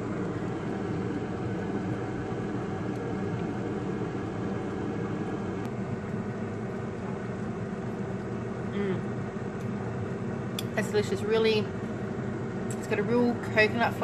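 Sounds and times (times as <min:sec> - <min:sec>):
appliance fan whirring: 0:00.0 - 0:14.0.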